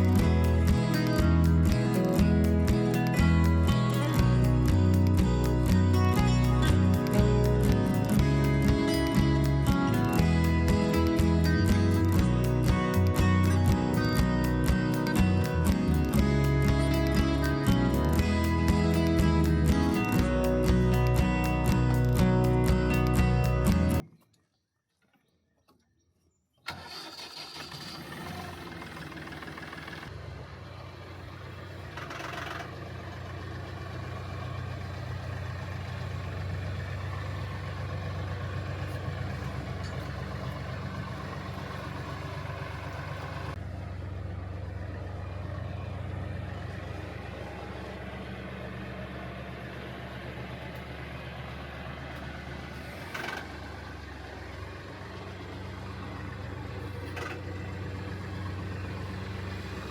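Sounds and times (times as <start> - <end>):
tractor engine running: 0.0 - 24.0, 26.7 - 59.9.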